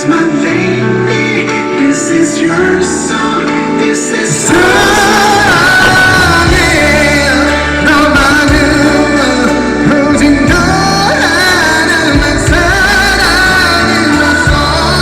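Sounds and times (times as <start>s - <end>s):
band accompaniment with bass: 0.0s - 15.0s
man singing: 0.0s - 15.0s.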